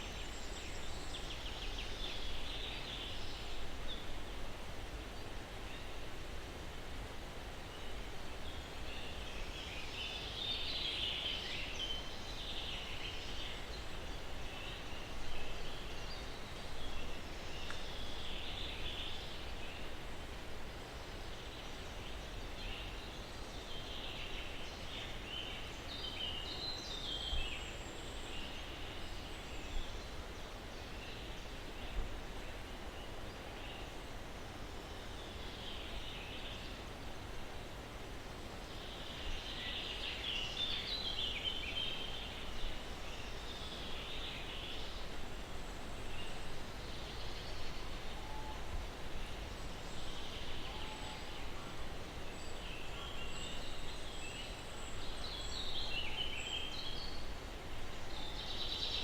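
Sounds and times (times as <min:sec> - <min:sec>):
breeze through pine trees: 0:00.0 - 0:59.0.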